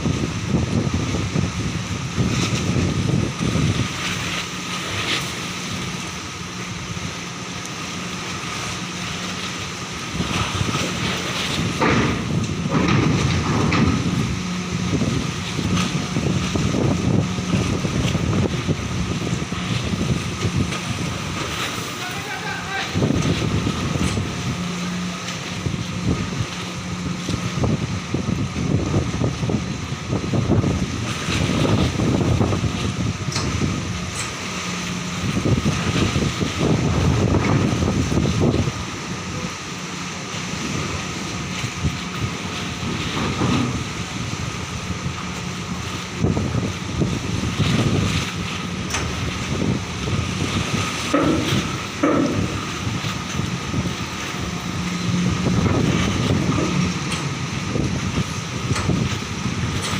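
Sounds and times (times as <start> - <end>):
diesel engine humming: 0.0 - 59.9
wind buffeting microphone: 0.0 - 59.9.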